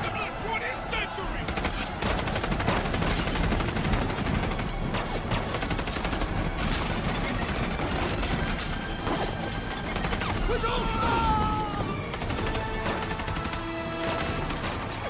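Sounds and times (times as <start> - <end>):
rapid gunfire: 1.4 - 15.0.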